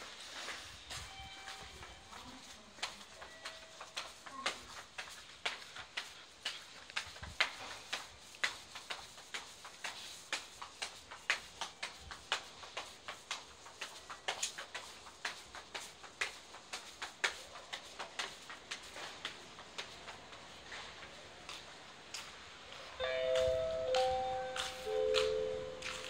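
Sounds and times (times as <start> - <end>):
shoes tapping down stairs: 0.4 - 26.0.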